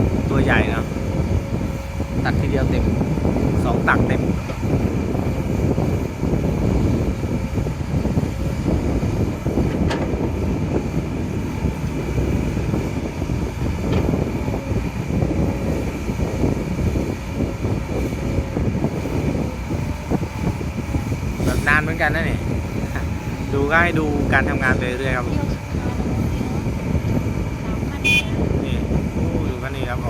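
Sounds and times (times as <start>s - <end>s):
excavator engine and hydraulics: 0.0s - 30.0s.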